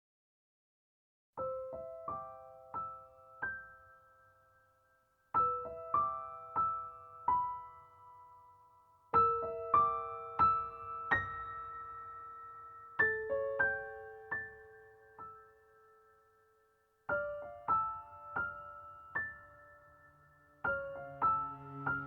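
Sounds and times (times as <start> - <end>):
gentle piano melody: 1.4 - 22.0.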